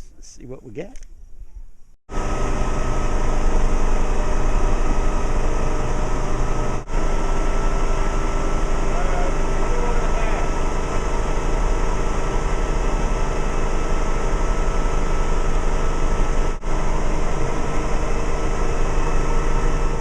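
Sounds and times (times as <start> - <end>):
helicopter engine and rotor drone: 2.4 - 20.0.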